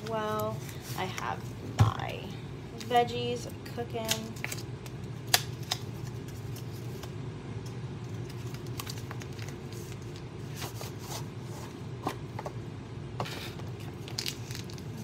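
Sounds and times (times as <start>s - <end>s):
utensils and packaging clicks and rustles: 0.0s - 2.2s, 2.8s - 12.6s, 13.2s - 15.0s
steady low hum: 0.0s - 15.0s.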